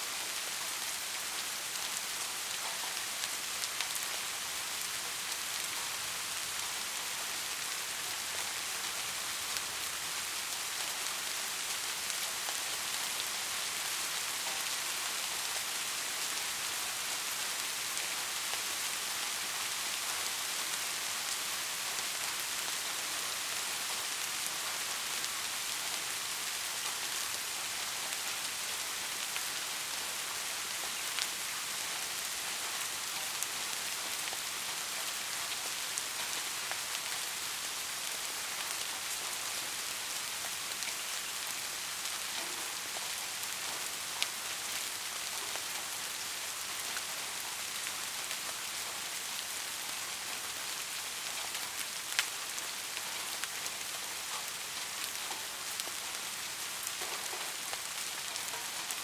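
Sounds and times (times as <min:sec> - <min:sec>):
rain falling on a roof: 0:00.0 - 0:59.0
sharp raindrops striking: 0:00.3 - 0:59.0.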